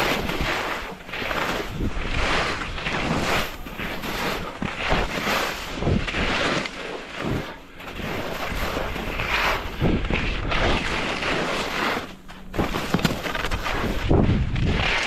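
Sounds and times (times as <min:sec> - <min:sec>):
wind rumbling on microphone: 0:00.0 - 0:06.5, 0:07.2 - 0:11.8, 0:12.4 - 0:15.0
skis scraping on snow: 0:00.0 - 0:15.0.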